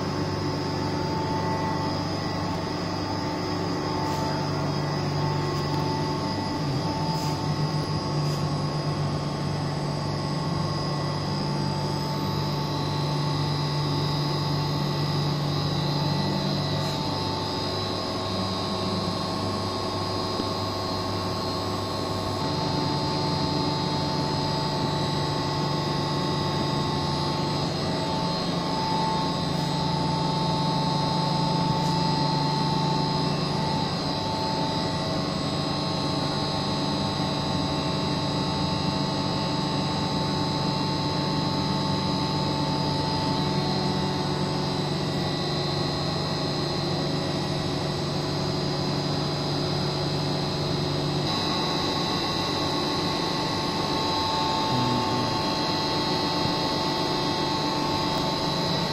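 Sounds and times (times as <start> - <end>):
chiller plant mechanical hum: 0.0 - 58.9.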